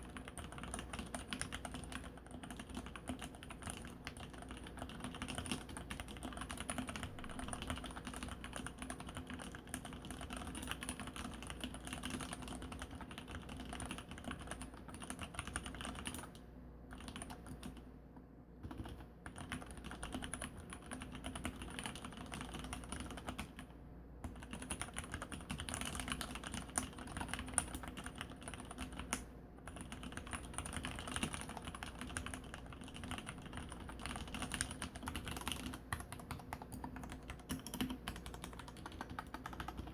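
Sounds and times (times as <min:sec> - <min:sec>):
mechanical keyboard typing: 0:00.0 - 0:17.8, 0:18.6 - 0:39.9.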